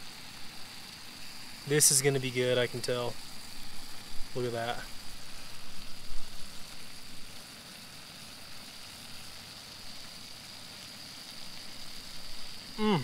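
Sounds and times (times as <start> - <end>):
potatoes sizzling in a skillet: 0.0 - 13.0.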